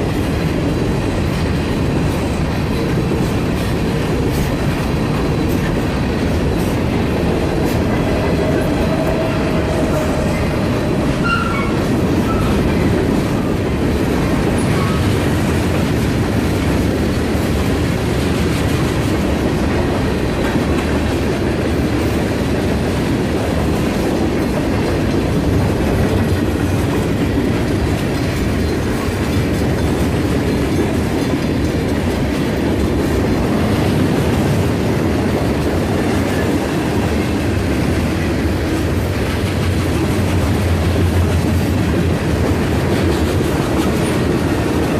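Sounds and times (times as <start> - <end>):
freight train cars rolling: 0.0 - 44.9
wheels clacking over rail joints: 0.0 - 44.9.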